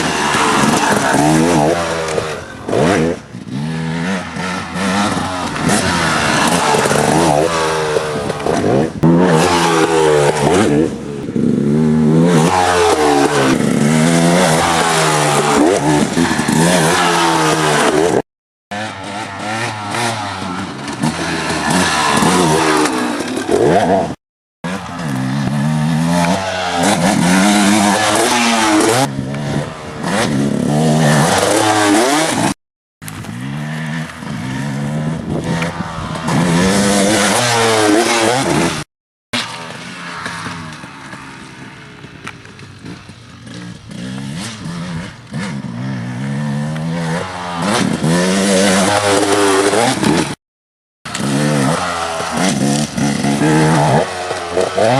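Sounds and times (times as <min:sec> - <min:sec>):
dirt bike engine revving: 0:00.0 - 0:50.4, 0:51.1 - 0:54.9.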